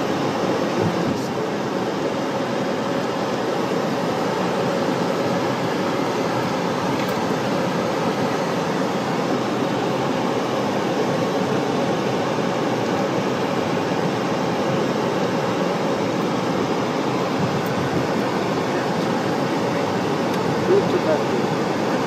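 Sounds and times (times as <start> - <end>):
car cabin engine and tyre noise: 0.0 - 22.0.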